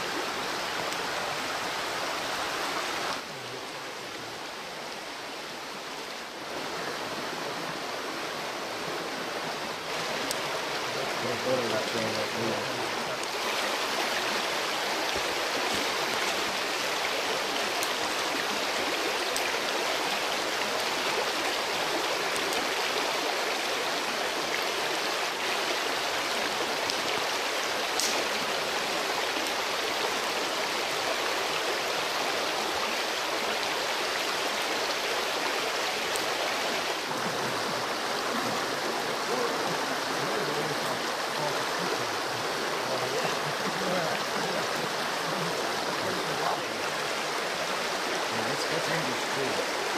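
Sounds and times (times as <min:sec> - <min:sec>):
creek running over stones: 0:00.0 - 0:49.9.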